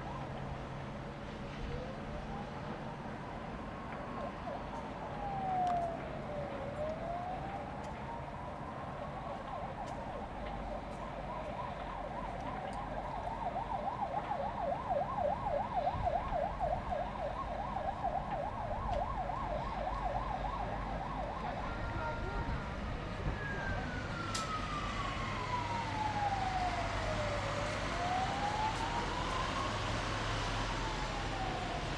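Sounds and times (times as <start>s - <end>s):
emergency vehicle siren: 0.0s - 31.9s.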